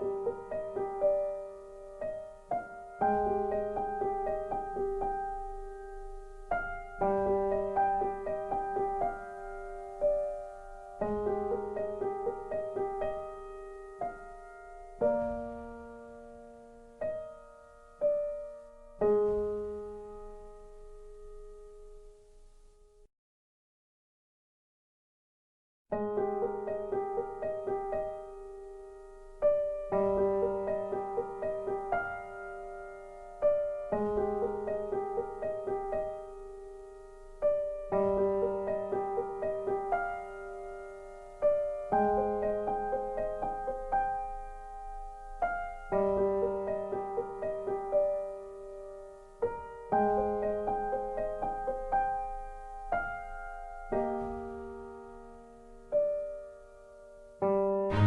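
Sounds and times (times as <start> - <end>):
gentle piano music: 0.0 - 23.1, 25.9 - 58.0.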